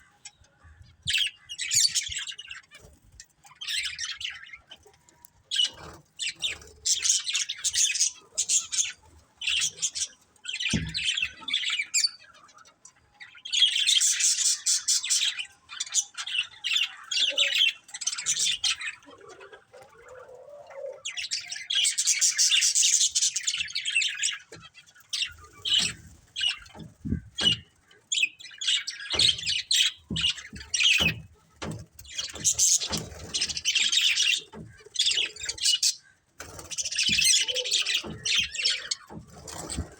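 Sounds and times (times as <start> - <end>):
budgerigars chattering and chirping: 0.0 - 4.9, 5.5 - 39.9.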